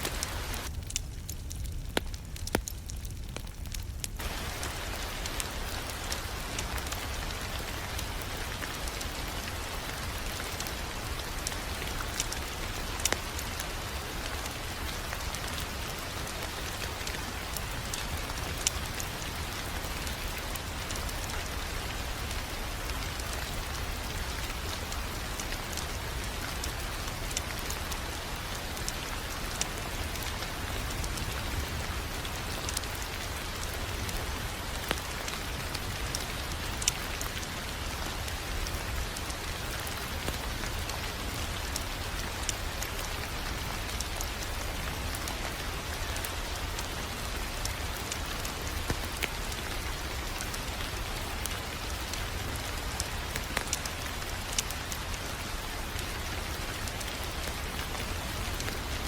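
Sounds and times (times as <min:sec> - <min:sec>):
fire crackling: 0:00.0 - 0:59.0
fire popping: 0:00.0 - 0:59.0.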